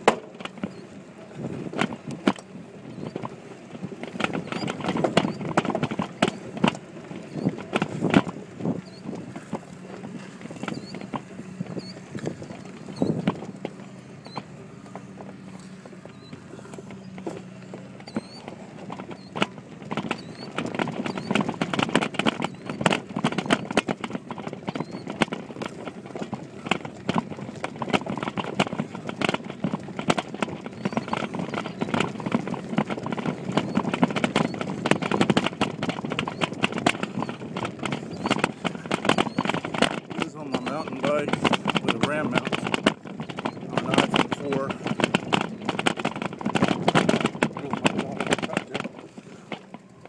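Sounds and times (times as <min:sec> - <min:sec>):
mountain bike rattling over bumps: 0:04.0 - 0:50.0.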